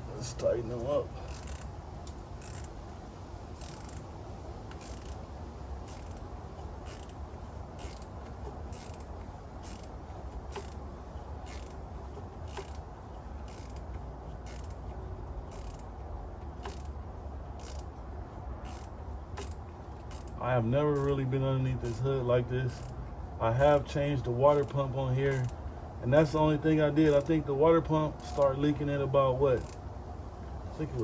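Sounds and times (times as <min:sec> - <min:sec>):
steady low hum: 0:00.0 - 0:31.0
ratchet wrench clicking: 0:00.8 - 0:23.0, 0:24.5 - 0:27.4, 0:28.2 - 0:28.8, 0:29.5 - 0:29.8.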